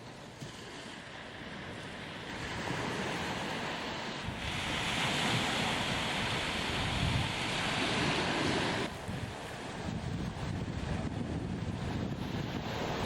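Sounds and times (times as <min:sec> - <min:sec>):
sea waves washing ashore: 0:00.0 - 0:13.0
wind buffeting microphone: 0:00.0 - 0:13.0.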